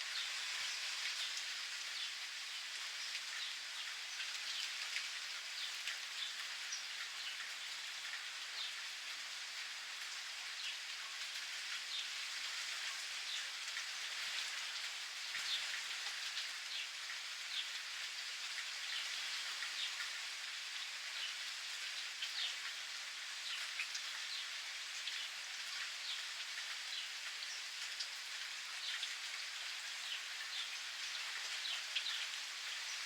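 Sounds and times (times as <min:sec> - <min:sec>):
rain pattering: 0:00.0 - 0:33.0.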